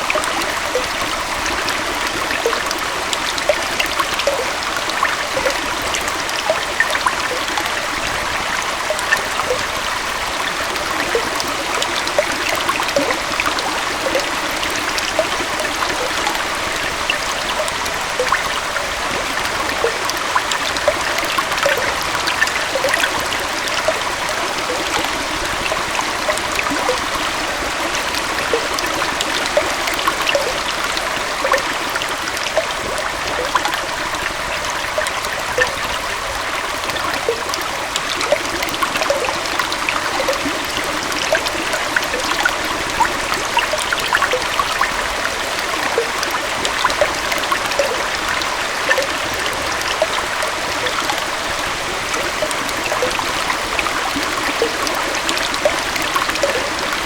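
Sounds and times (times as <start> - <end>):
water splashing and bubbling: 0.0 - 57.0.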